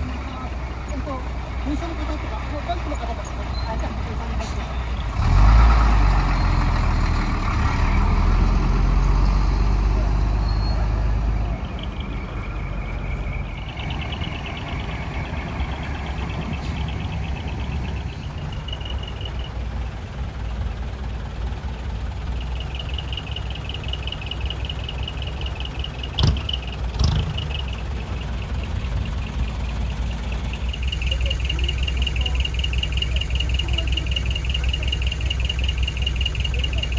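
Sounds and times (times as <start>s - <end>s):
diesel truck engine rumbling: 0.0s - 36.9s.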